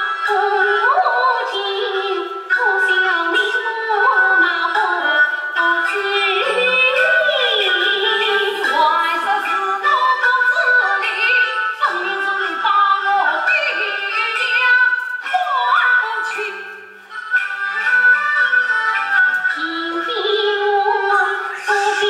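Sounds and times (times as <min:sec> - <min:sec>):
woman singing opera: 0:00.0 - 0:16.8, 0:19.5 - 0:22.0
traditional instrumental accompaniment: 0:00.0 - 0:22.0.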